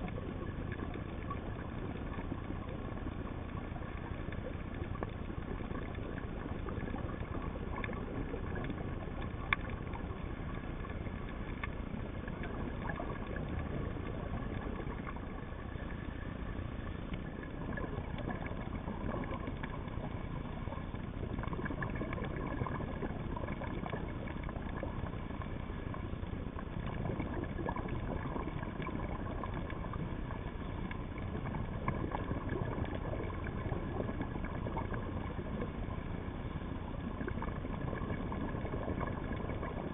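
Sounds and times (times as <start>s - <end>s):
faint steady tones: 0.0s - 39.9s
underwater rumble and hiss: 0.0s - 39.9s.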